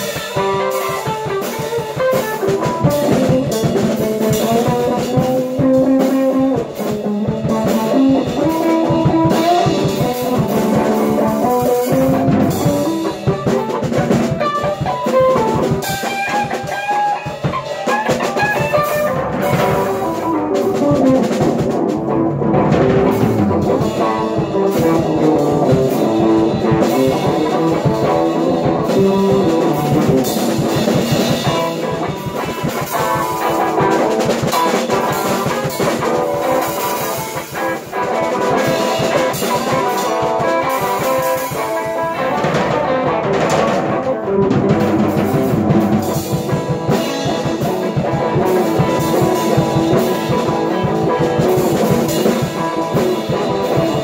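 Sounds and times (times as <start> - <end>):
drum kit beat: 0.0 - 54.0
electric guitar playing: 0.0 - 54.0.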